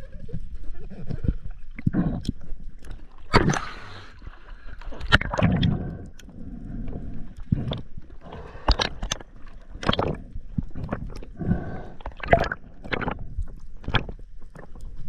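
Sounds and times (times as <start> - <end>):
water sloshing and splashing: 1.5 - 5.9, 7.2 - 15.0.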